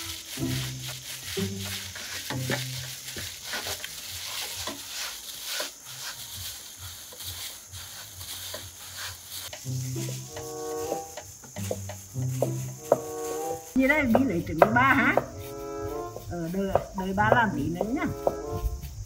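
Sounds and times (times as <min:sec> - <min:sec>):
utensil scraping in mixing bowl: 0:00.0 - 0:18.9
steady hiss: 0:00.0 - 0:19.0.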